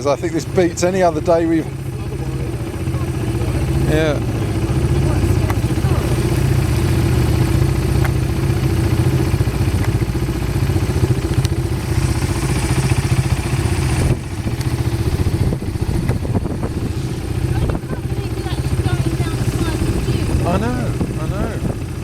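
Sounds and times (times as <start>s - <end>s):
quad bike engine idling: 0.0s - 22.0s.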